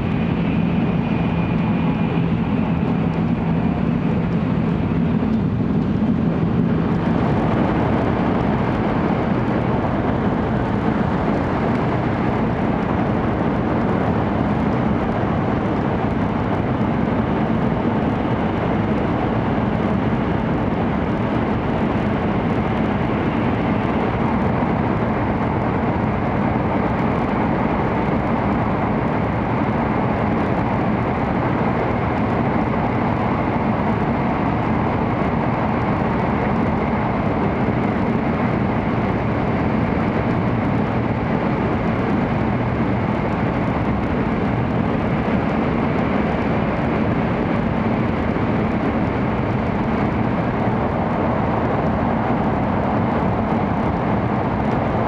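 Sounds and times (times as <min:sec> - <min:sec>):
train cabin rumble and rush: 0:00.0 - 0:55.0.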